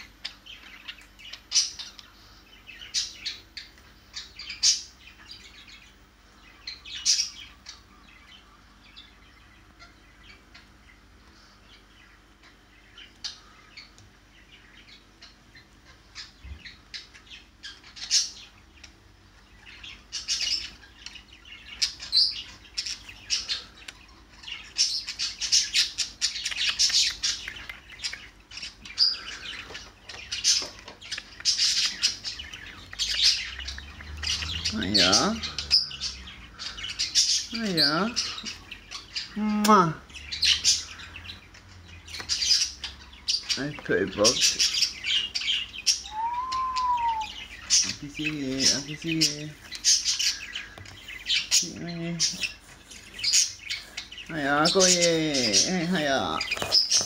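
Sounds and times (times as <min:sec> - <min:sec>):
budgies chirping and chattering: 0:00.0 - 0:57.0.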